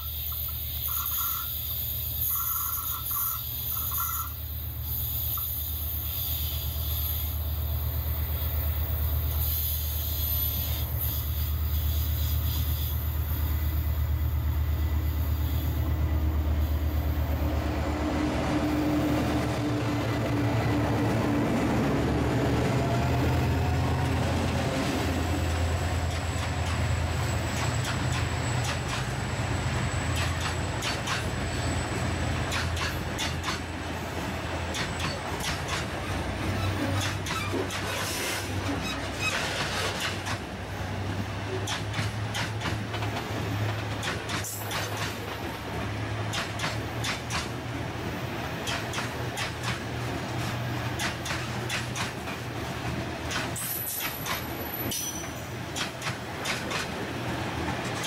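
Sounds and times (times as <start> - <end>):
diesel locomotive engine rumble: 0.0 - 58.0
train rolling noise: 0.0 - 58.0.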